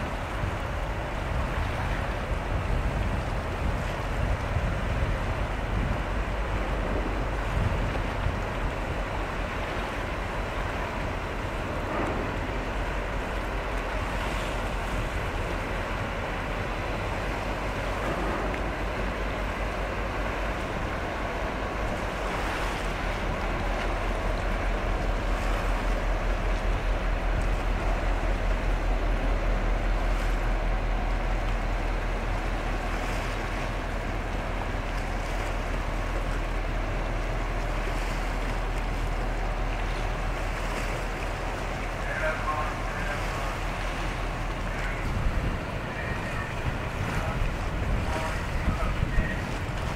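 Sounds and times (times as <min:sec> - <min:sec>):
ship engine rumble: 0:00.0 - 0:49.9
water wash: 0:00.0 - 0:49.9
wind: 0:00.0 - 0:49.9.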